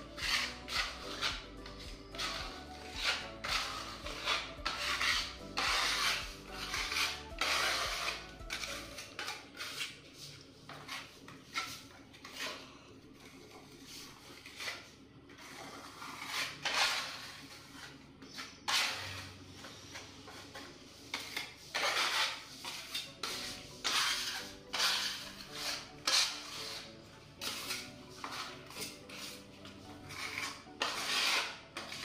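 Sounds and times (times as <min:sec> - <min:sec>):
putty knife scraping filler: 0:00.0 - 0:32.0.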